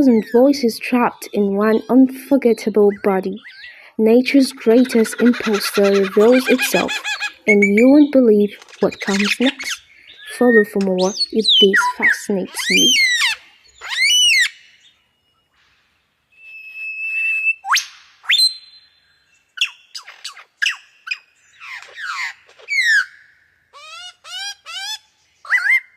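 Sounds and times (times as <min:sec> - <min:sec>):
lyrebird singing mimicked calls: 0:00.0 - 0:14.9, 0:19.6 - 0:25.9.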